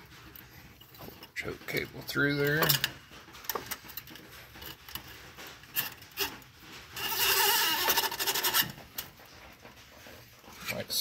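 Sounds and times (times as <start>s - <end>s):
cable scraping through clamp: 0.2s - 9.4s.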